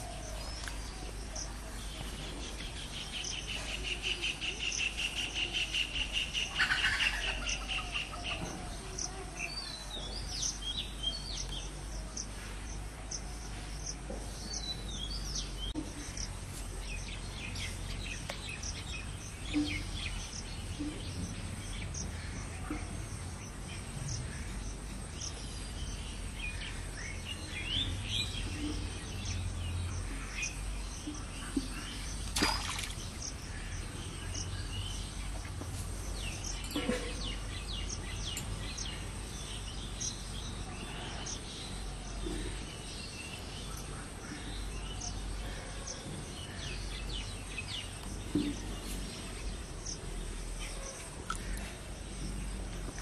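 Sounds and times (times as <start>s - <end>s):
insects: 0.0s - 53.0s.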